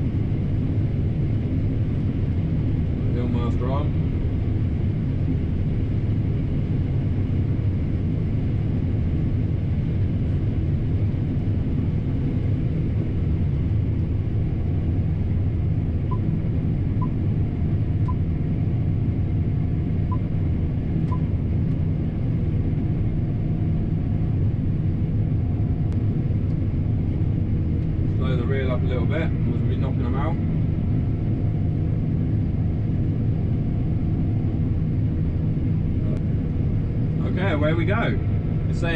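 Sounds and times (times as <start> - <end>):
combine harvester humming: 0.0 - 38.9.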